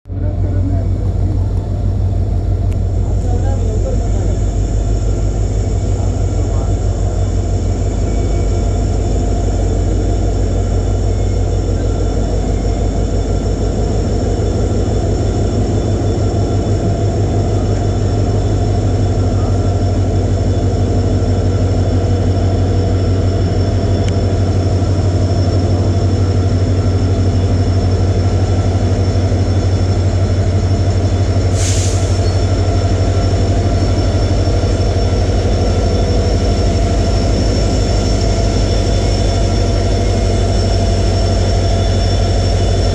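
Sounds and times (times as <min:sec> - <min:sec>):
diesel locomotive engine idling: 0:00.0 - 0:42.9
high steady whine: 0:00.1 - 0:42.9.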